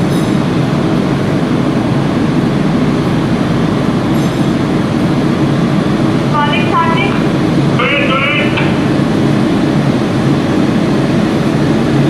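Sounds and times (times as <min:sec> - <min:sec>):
low rumbling airport ambience: 0:00.0 - 0:12.0.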